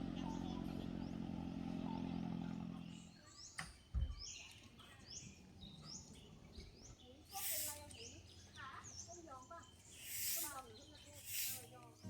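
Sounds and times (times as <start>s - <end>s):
bird chirping in forest: 0.0s - 12.0s.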